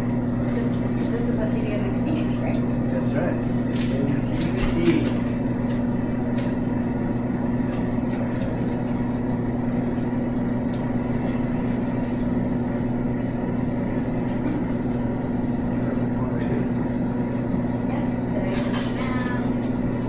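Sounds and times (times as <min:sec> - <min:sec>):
vending machine electrical hum: 0:00.0 - 0:20.0.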